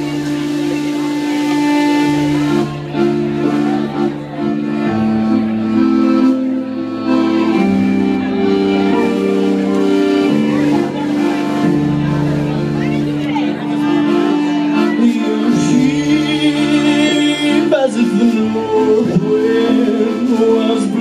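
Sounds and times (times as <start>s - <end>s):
accordion: 0.0s - 21.0s
bass line: 0.0s - 21.0s.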